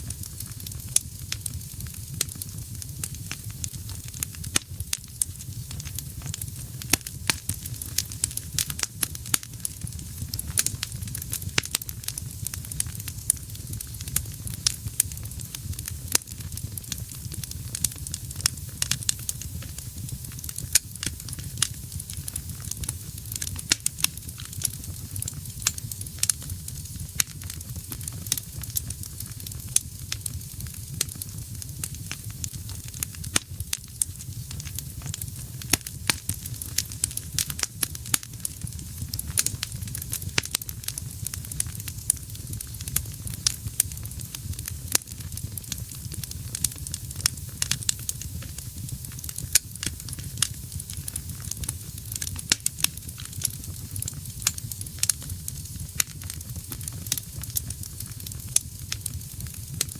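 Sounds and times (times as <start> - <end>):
fire rumbling and hissing: 0.0 - 59.9
logs crackling and popping: 0.0 - 59.9.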